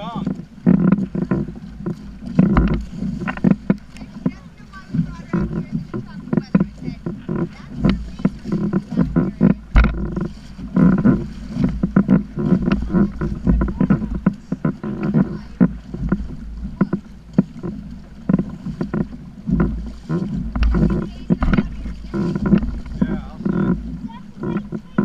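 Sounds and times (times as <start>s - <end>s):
water slapping against kayak hull: 0.0s - 25.0s
wind rumbling on microphone: 0.0s - 25.0s.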